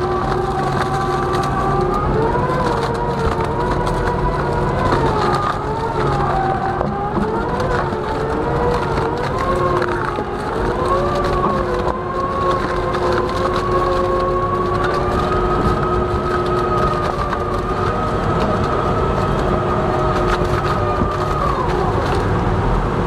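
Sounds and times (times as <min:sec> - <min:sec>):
wood cracking: 0:00.0 - 0:22.5
machine drive whining: 0:00.0 - 0:22.6
log shredder grinding wood: 0:00.0 - 0:23.0.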